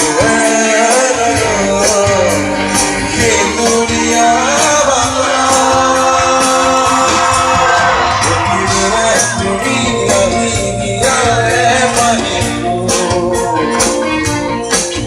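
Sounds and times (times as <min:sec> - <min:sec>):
live band music: 0:00.0 - 0:15.0
steady percussion beat: 0:00.0 - 0:15.0.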